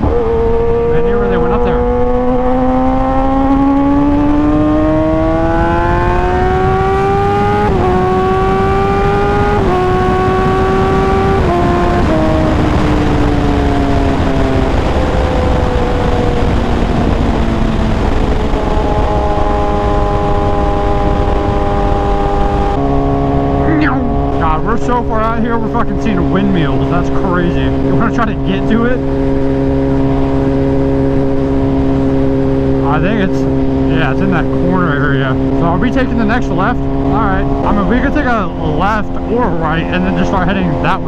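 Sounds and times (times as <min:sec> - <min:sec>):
motorcycle engine accelerating: 0:00.0 - 0:41.0
wind rush: 0:00.0 - 0:41.0.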